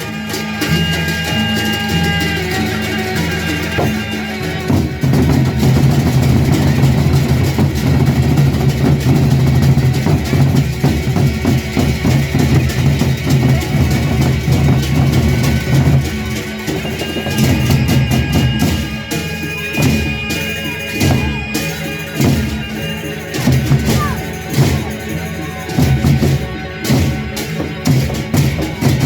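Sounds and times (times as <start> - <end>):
drums and percussion: 0.0 - 29.0
instrumental ensemble music: 0.0 - 29.0.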